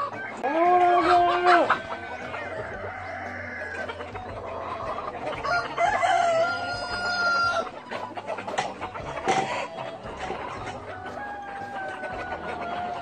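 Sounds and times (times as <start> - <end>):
hens clucking: 0.0 - 13.0
roosters crowing: 0.0 - 13.0.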